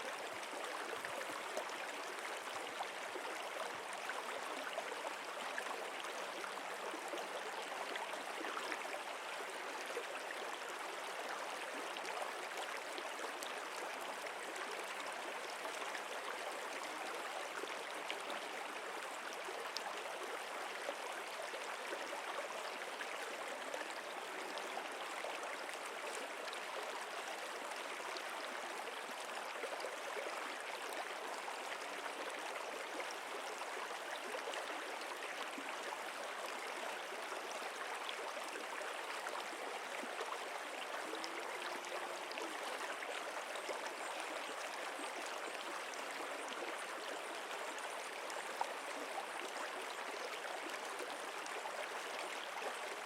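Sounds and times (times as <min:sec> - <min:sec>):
stream water rushing and gurgling: 0:00.0 - 0:53.0.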